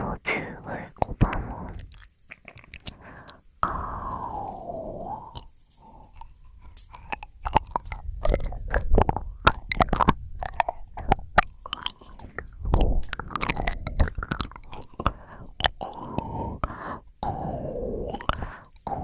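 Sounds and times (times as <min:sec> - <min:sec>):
wet mouth smacks and clicks: 0:00.9 - 0:04.2, 0:05.0 - 0:19.0.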